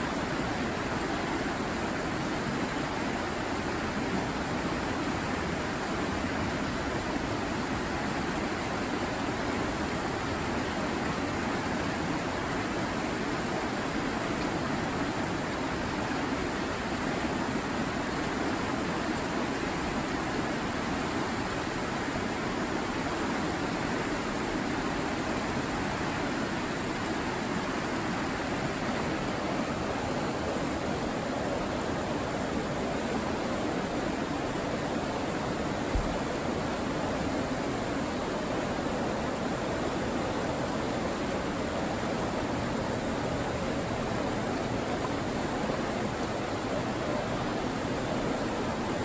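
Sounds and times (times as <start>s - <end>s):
water rushing over rocks: 0.0s - 49.0s.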